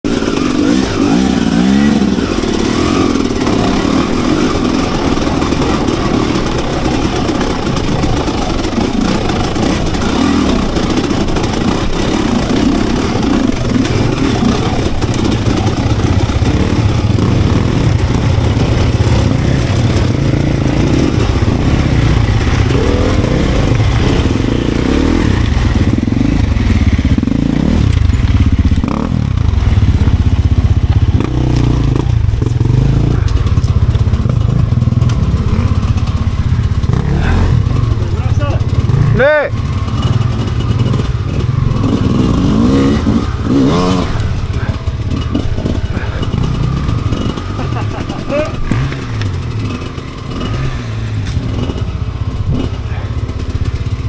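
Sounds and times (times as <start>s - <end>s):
motorcycle engine revving: 0.0s - 54.0s
clattering over rough ground: 0.1s - 54.0s.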